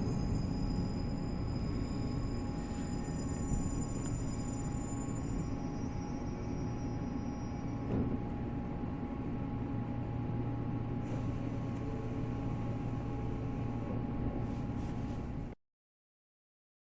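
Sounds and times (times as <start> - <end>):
train car electrical hum: 0.0 - 15.6.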